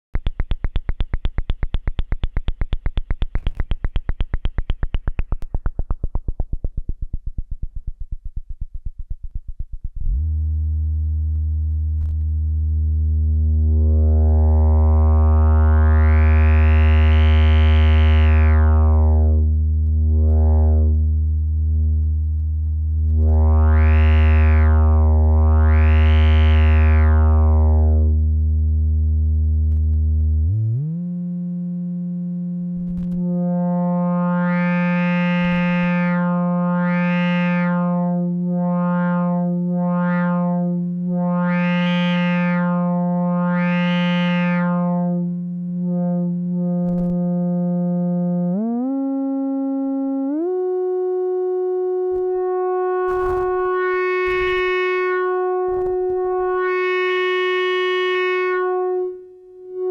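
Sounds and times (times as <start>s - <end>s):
buzzy synthesizer pulse: 0.2s - 59.9s
synth tone with wah sweep: 0.2s - 59.9s.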